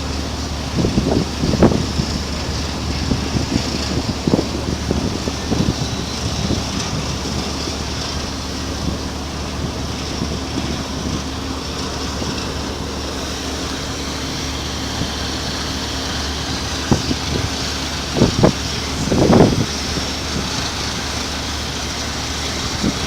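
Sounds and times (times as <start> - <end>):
low engine drone: 0.0 - 23.0
rushing noise: 0.0 - 23.0.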